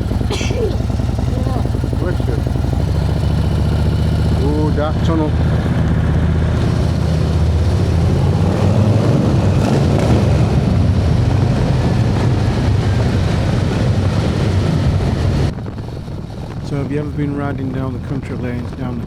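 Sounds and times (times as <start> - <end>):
motorcycle engine accelerating: 0.0 - 18.7
road and wind noise in tunnel: 0.0 - 19.0.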